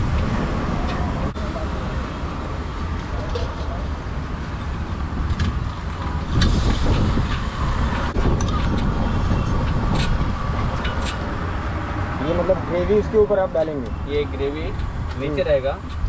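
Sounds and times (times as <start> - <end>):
street stall background rumble: 0.0 - 16.0.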